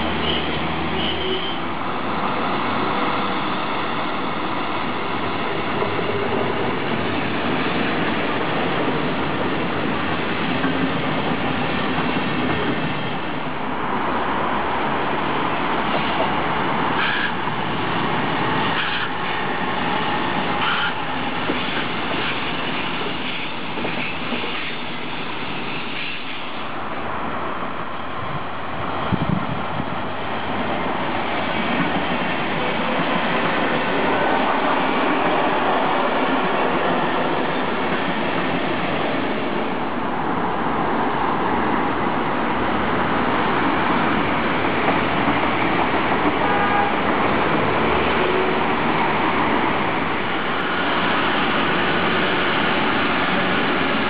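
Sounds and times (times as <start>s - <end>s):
train rolling on rails: 0.0s - 54.0s.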